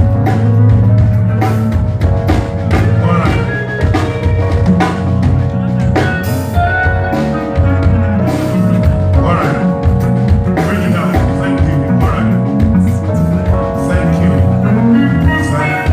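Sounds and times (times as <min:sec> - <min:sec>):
guitar over held chords: 0:00.0 - 0:15.9
pulsing bass line: 0:00.0 - 0:15.9.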